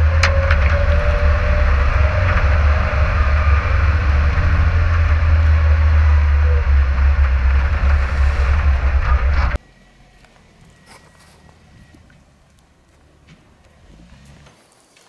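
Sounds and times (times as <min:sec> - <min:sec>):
off-road vehicle engine rumble: 0:00.0 - 0:14.9.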